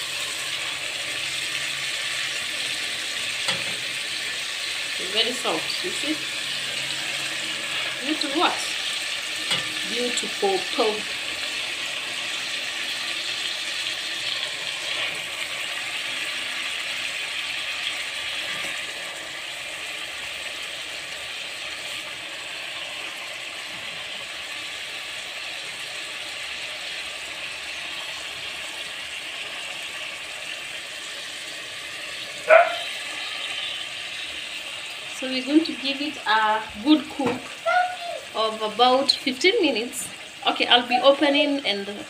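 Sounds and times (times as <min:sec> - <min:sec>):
chicken sizzling in a pot: 0:00.0 - 0:42.0.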